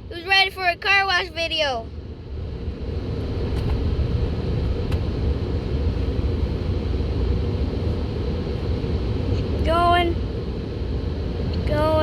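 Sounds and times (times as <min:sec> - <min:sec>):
car wash rumble: 0:00.0 - 0:12.0.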